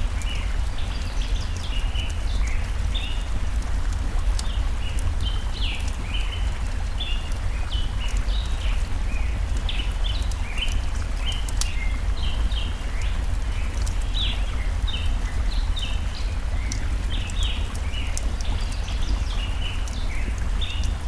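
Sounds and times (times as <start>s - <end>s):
small birds chirping: 0.0s - 3.4s, 4.4s - 21.0s
forest stream rushing: 0.0s - 21.0s
wood fire crackling: 0.0s - 21.0s.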